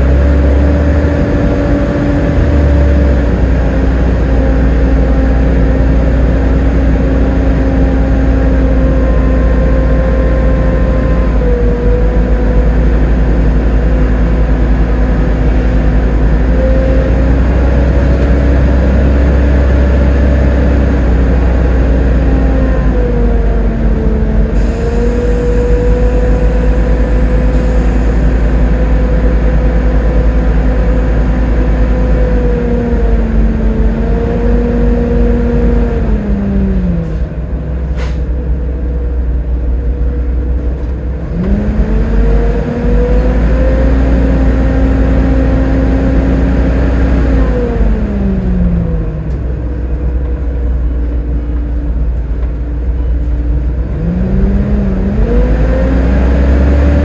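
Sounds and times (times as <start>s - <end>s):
bus engine rumble: 0.0s - 57.0s
drivetrain whine: 0.0s - 57.0s.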